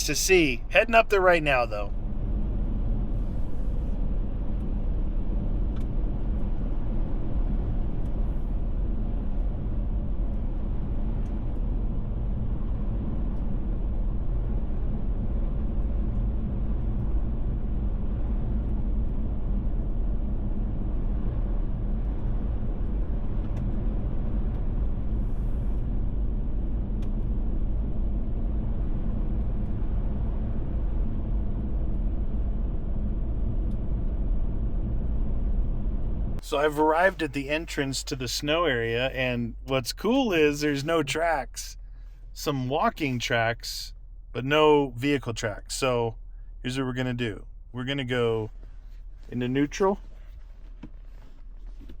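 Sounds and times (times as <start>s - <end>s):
road and engine rumble inside car: 0.0s - 52.0s.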